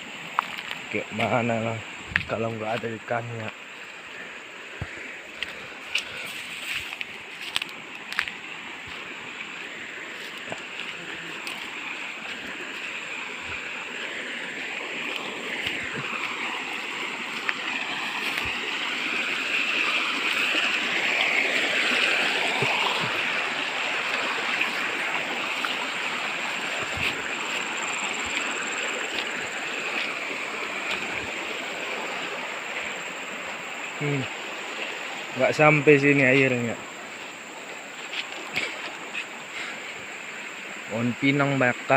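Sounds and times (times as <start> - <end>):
stream babbling over rocks: 0.0 - 41.9.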